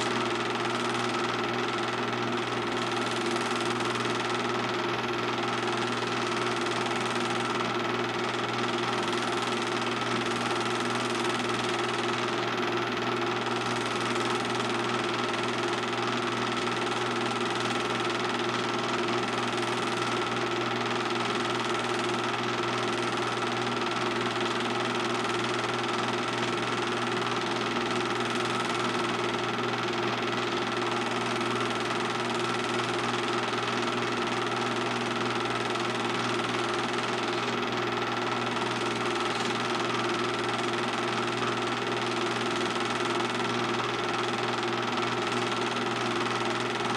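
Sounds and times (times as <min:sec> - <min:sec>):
film projector whirring: 0:00.0 - 0:46.9.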